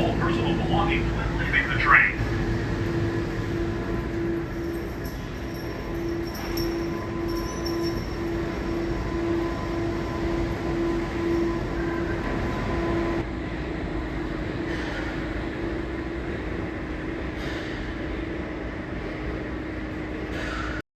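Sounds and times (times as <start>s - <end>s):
train car hum: 0.0s - 20.6s.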